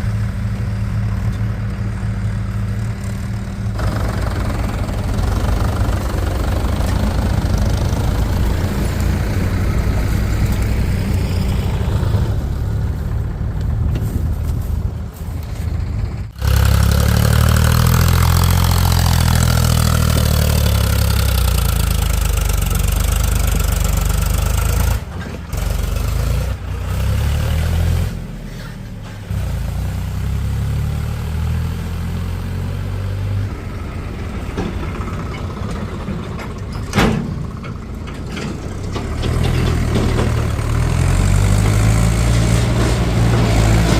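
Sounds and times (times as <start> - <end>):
diesel machinery engine revving: 0.0 - 43.9.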